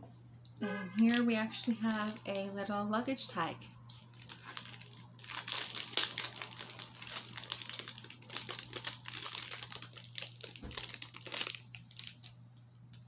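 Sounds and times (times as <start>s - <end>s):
packaging crinkling: 1.0s - 2.5s, 3.8s - 13.0s.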